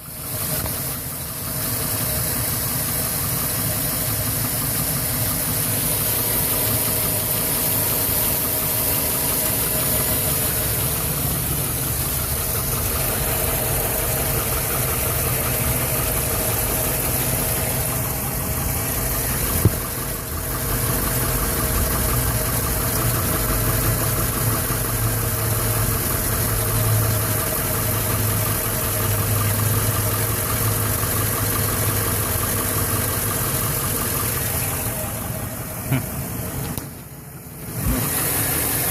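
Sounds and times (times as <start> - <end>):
engine idling roughly: 0.0 - 38.9.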